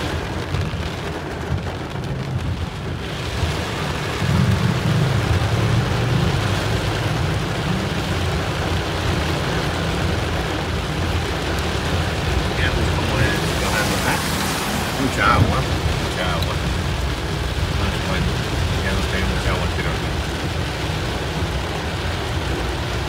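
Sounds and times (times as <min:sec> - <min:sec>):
low rumble: 0:00.0 - 0:19.2
heavy rain on car roof: 0:00.0 - 0:23.0.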